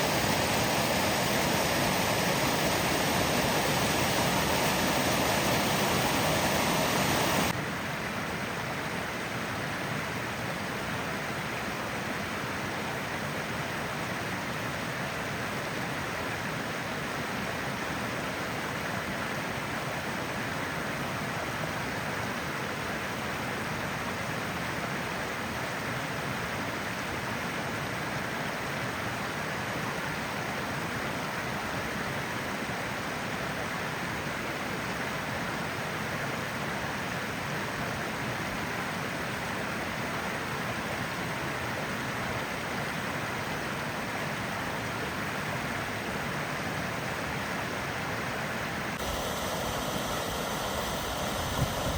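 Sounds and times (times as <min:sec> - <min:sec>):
water rushing: 0:00.0 - 0:07.6, 0:17.8 - 0:51.9.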